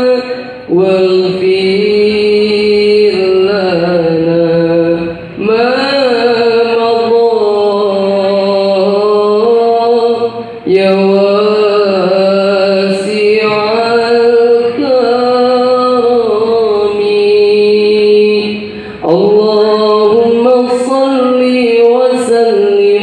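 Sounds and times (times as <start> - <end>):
man chanting into a microphone: 0.0 - 23.0.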